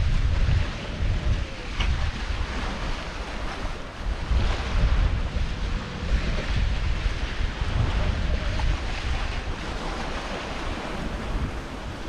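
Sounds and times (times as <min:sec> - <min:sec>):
water rushing past hulls: 0:00.0 - 0:12.0
wind buffeting microphone: 0:00.0 - 0:12.0.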